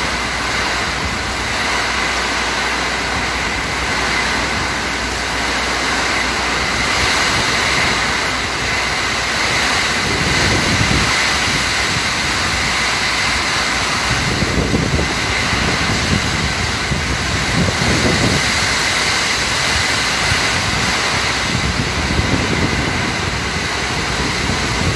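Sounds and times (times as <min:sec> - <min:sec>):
heavy rain roar: 0:00.0 - 0:24.9
wind gusting through trees: 0:00.0 - 0:24.9.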